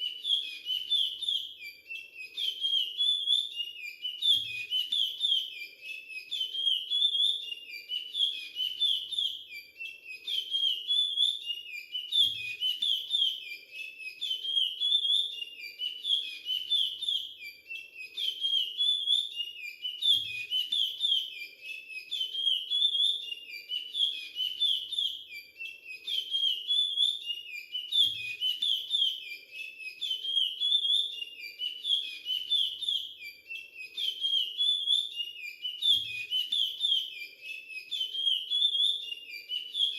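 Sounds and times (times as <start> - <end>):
finch singing whistled chirps: 0.0 - 39.9.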